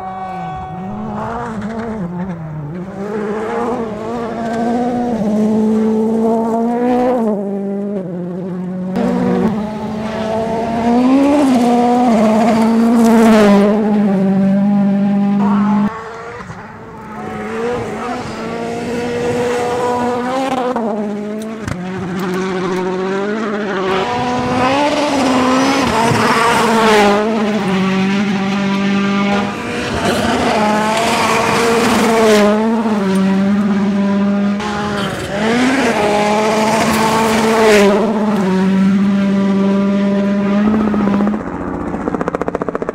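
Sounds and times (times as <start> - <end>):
rally car engines revving: 0.0 - 42.9.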